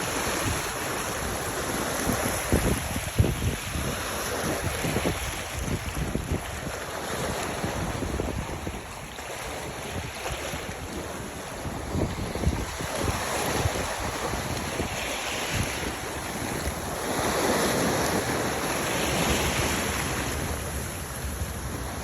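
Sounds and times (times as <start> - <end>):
sea waves washing: 0.0 - 22.0
wind buffeting microphone: 0.0 - 22.0.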